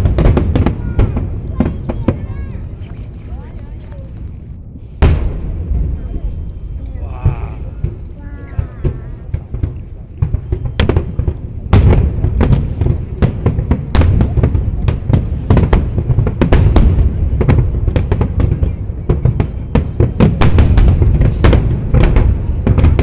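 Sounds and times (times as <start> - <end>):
continuous low rumble: 0.0 - 23.0
fireworks bangs and booms: 0.0 - 23.0.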